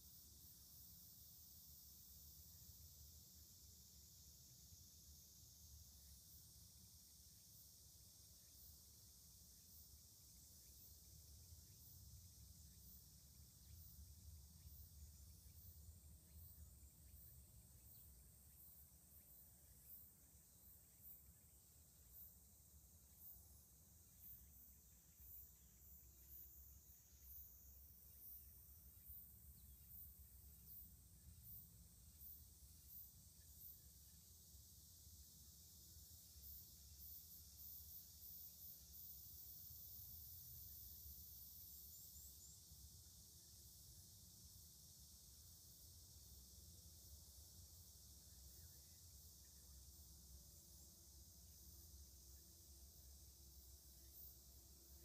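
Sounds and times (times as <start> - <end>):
faint insects chirping: 0.0 - 55.0.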